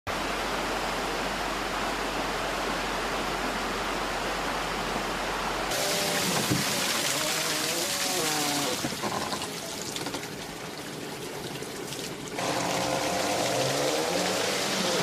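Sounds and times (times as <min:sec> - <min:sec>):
flowing water rushing: 0:00.1 - 0:15.0.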